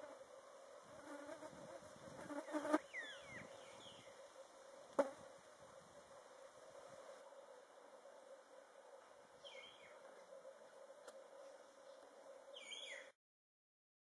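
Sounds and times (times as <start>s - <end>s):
insects buzzing: 0.0s - 13.1s.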